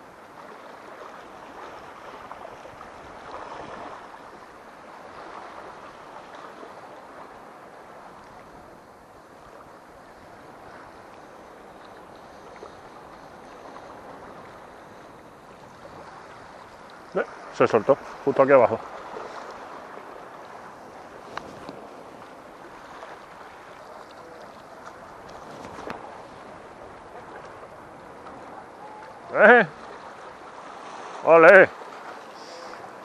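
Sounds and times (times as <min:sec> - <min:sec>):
sea waves lapping against rocks: 0:00.0 - 0:33.0.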